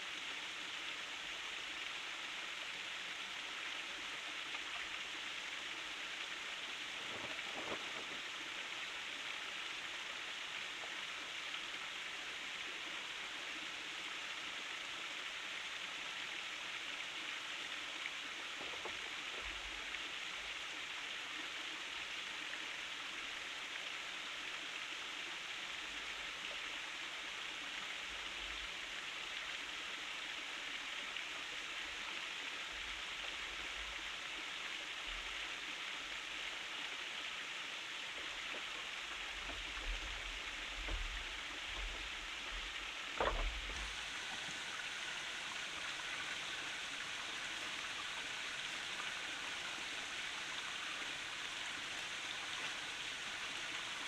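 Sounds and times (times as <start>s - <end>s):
hiss of running water: 0.0s - 54.0s.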